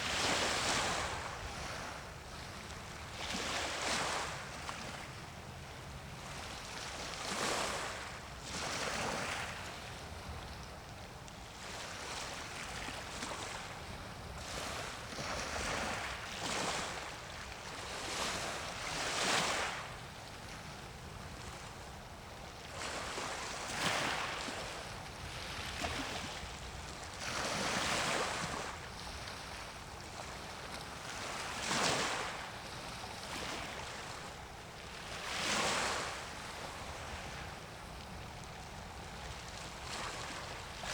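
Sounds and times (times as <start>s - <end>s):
small waves washing on shore: 0.0s - 40.9s.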